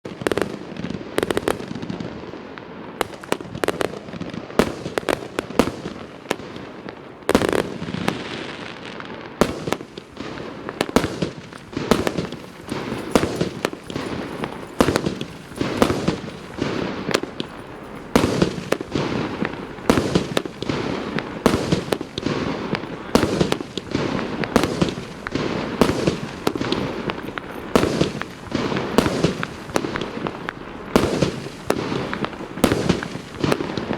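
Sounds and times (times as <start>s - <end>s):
firework bursts crackling: 0.1s - 33.9s.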